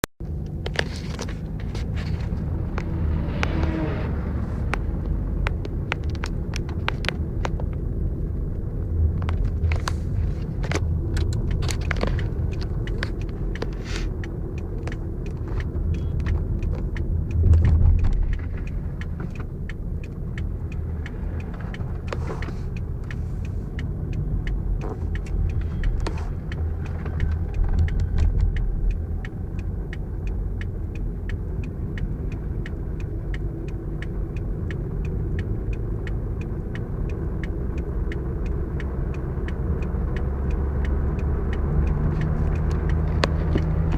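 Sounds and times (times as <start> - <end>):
vehicle engine rumble: 0.0 - 43.9
small clicks and knocks: 0.3 - 43.9.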